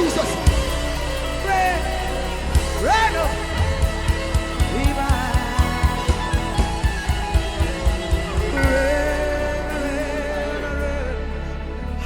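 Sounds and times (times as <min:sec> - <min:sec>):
steady beat: 0:00.0 - 0:10.5
instrumental worship music with guitar: 0:00.0 - 0:12.0.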